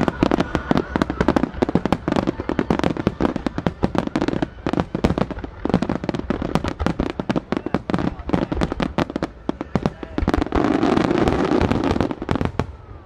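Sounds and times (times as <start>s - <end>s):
fireworks launching and bursting: 0.0s - 13.0s.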